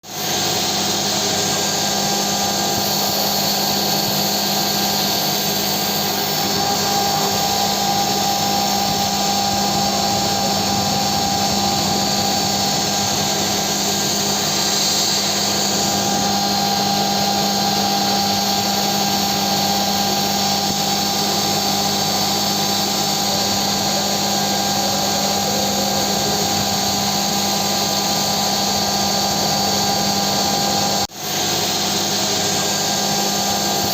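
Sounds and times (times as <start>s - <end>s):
milling machine whine: 0.0s - 33.9s.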